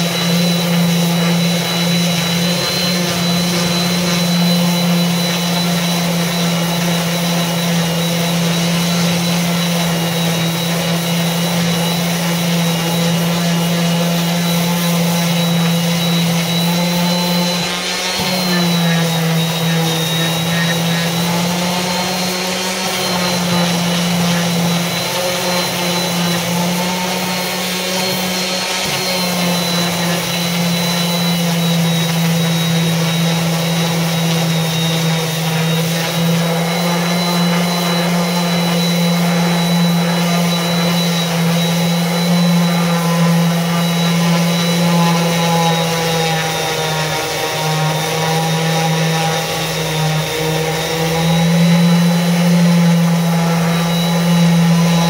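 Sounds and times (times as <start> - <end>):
orbital sander on wood: 0.0 - 55.0.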